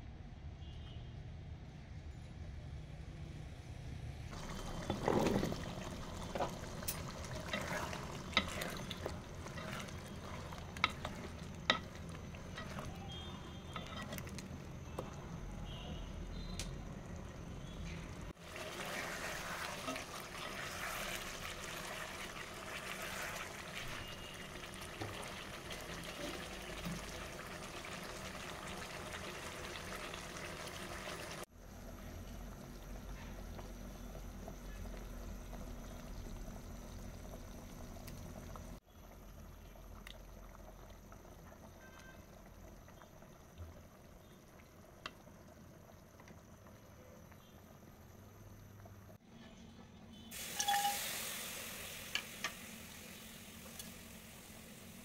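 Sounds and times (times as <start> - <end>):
curry bubbling in a pot: 4.3 - 49.2.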